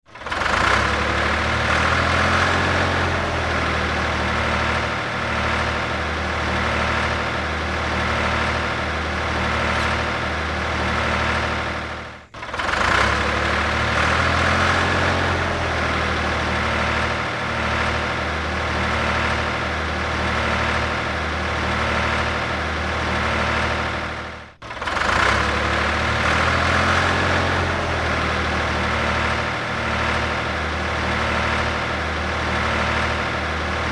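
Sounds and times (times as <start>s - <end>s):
tractor engine idling: 0.0s - 33.9s.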